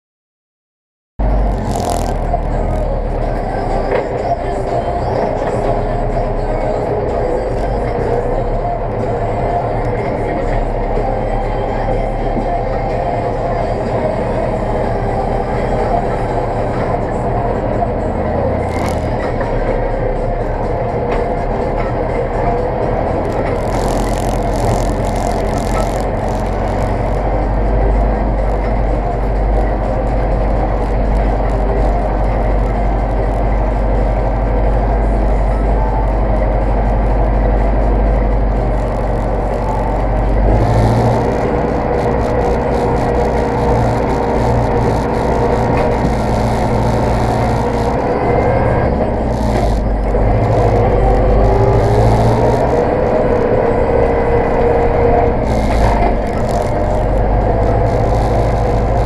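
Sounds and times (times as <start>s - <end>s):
tractor diesel engine running: 1.2s - 59.0s.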